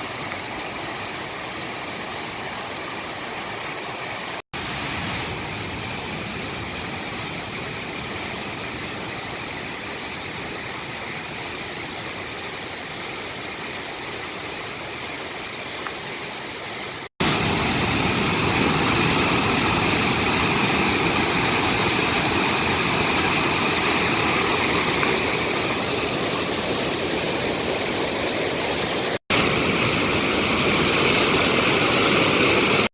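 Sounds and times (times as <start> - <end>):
mountain stream rushing: 0.0 - 32.9.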